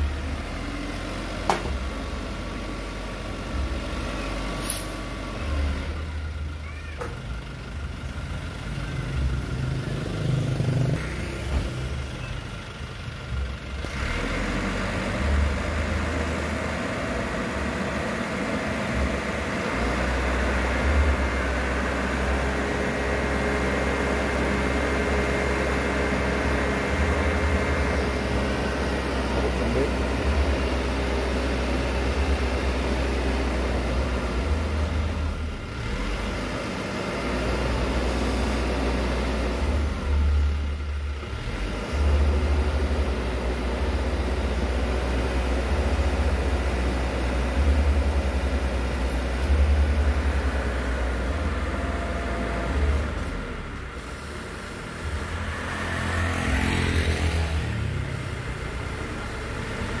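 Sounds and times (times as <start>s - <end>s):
diesel truck engine running: 0.0s - 60.0s.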